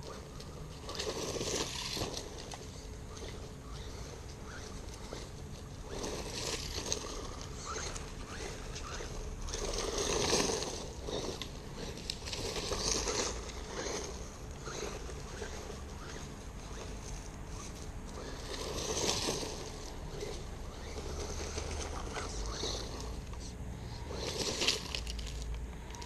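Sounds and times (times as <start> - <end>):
electric motor whining: 0.0 - 26.0
tyres running on dry dirt: 0.0 - 26.0.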